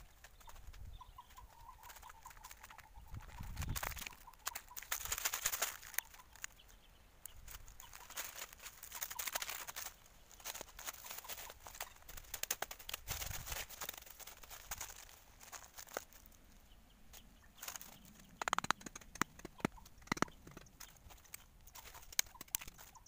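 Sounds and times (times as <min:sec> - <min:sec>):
dry leaves and twigs crunching: 0:00.0 - 0:23.0.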